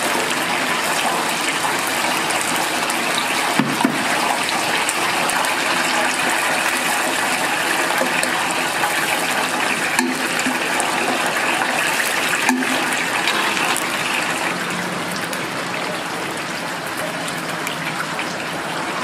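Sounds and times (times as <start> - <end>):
chicken deep-frying in oil: 0.0 - 19.0.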